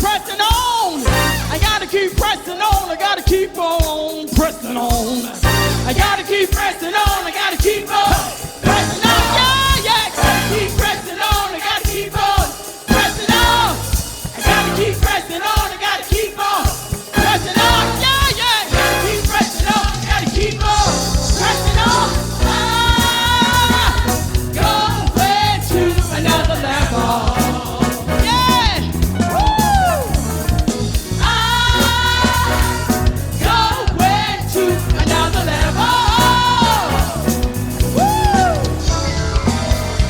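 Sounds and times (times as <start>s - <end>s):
band and singers performing: 0.0s - 40.0s.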